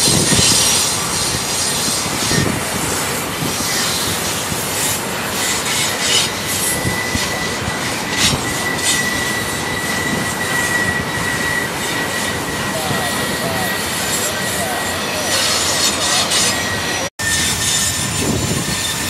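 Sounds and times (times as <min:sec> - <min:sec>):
high-pitched wheel squeal: 0:00.0 - 0:19.0
steel wheels rumbling on rail: 0:00.0 - 0:19.0.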